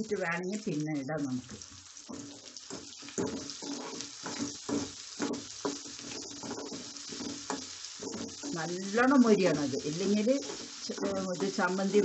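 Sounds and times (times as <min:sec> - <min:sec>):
onions sizzling in hot oil: 0:00.0 - 0:12.0
spoon scraping a pan: 0:01.6 - 0:12.0.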